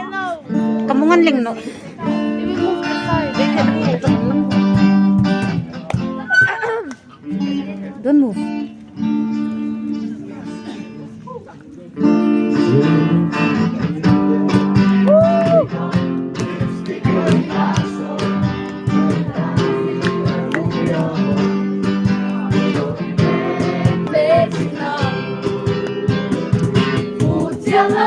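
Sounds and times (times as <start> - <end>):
acoustic guitar strumming: 0.0 - 11.1, 12.0 - 28.0.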